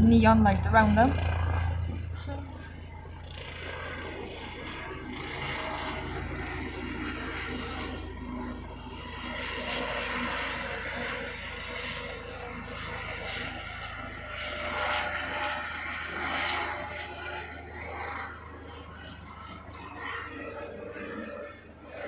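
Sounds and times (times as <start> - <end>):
aircraft engine drone: 0.0 - 22.0.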